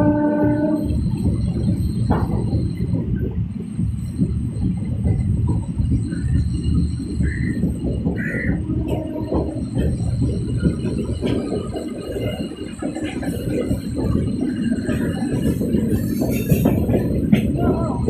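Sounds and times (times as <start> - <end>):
train rattling and clatter: 0.0 - 18.0
train wheels rumbling: 0.0 - 18.0.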